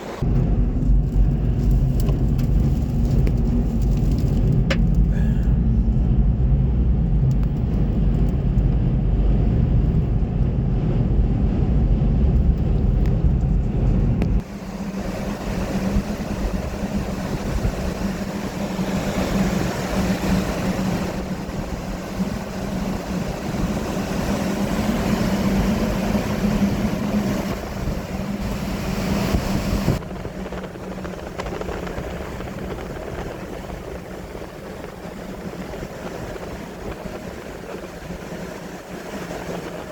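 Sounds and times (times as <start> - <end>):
strong wind buffeting: 0.0 - 39.9.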